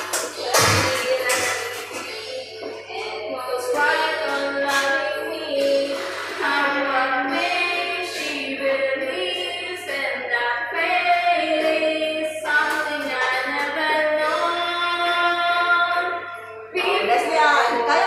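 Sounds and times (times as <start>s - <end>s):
karaoke backing music: 0.0s - 18.0s
woman singing into microphone: 0.0s - 18.0s.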